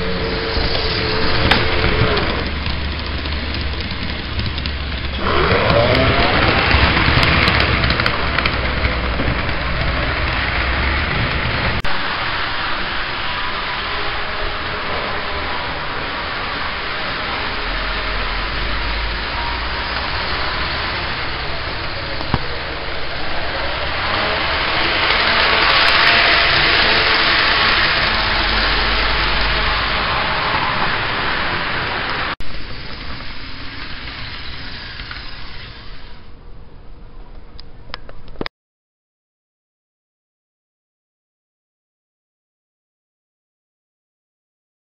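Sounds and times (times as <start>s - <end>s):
model train whirring on track: 0.0s - 36.6s.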